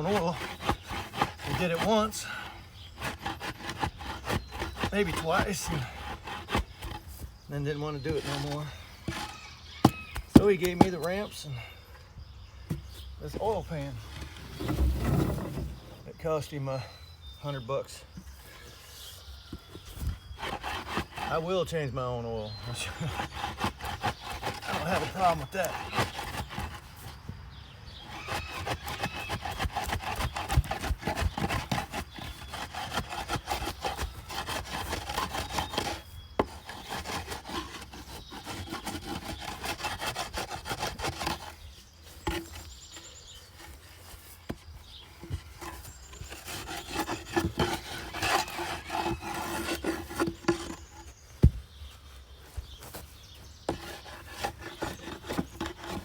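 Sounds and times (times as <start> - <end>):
scraping and rubbing: 0.0 - 11.5, 12.7 - 16.6, 18.9 - 27.3, 28.0 - 56.0.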